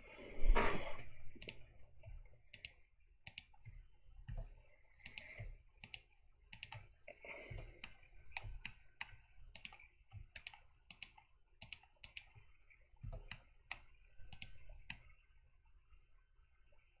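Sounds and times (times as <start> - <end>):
keyboard and mouse clicking: 1.4 - 15.1.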